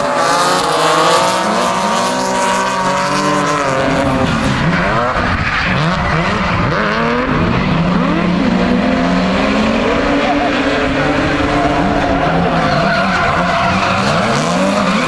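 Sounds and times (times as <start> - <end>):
car engine revving: 0.0 - 15.0
tyres skidding: 0.0 - 15.0.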